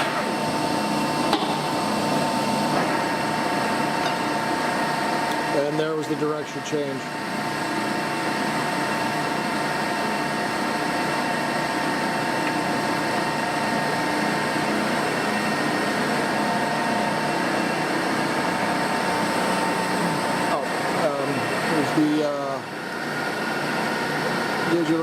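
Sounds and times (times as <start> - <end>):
lathe hum and gear whine: 0.0 - 25.0.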